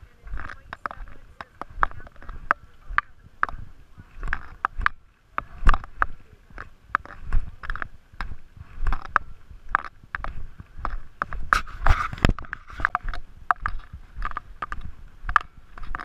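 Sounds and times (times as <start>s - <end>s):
footsteps crunching on dirt: 0.0s - 16.0s.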